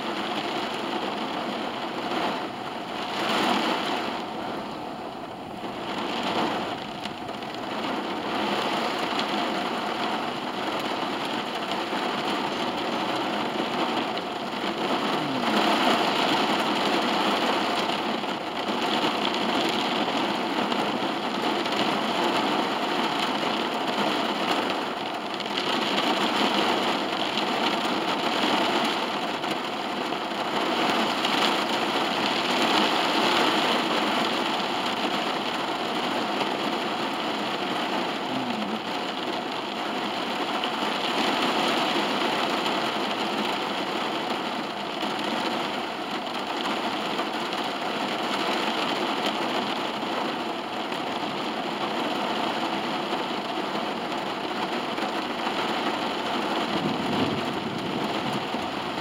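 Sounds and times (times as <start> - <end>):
heavy rain on car roof: 0.0 - 59.0.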